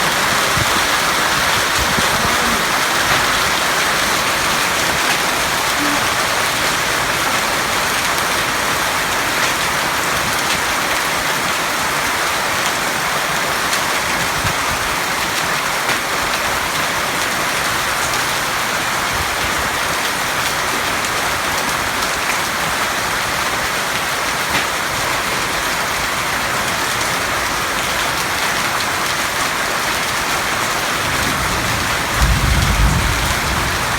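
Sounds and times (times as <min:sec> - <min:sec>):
rain falling steadily: 0:00.0 - 0:33.9.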